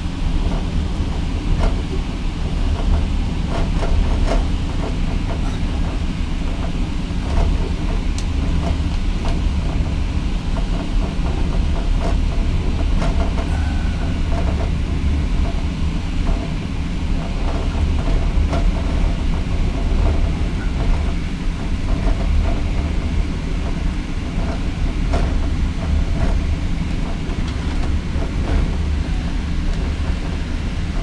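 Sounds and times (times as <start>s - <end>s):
train rumbling inside carriage: 0.0s - 31.0s.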